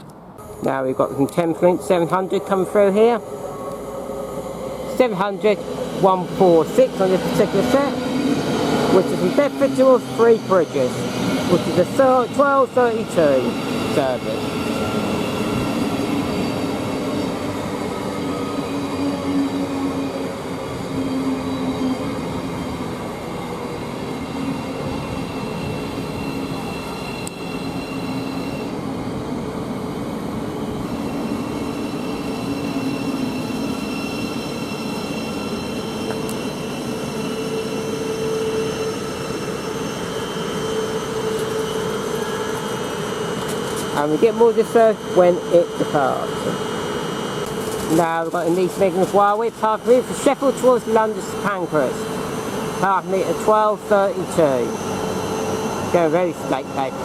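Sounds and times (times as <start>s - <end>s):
train humming tones: 0.0s - 57.0s
train rumble: 0.0s - 57.0s.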